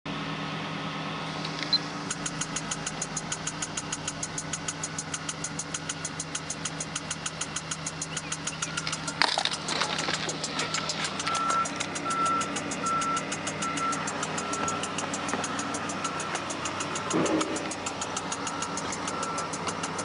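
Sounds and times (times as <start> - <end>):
steady low hum: 1.2 - 20.0
fast ticking bass music beat: 1.8 - 20.0.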